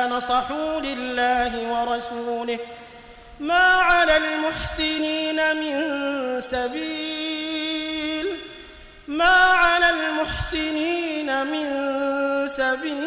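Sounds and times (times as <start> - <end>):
person reciting melodically: 0.0 - 13.0.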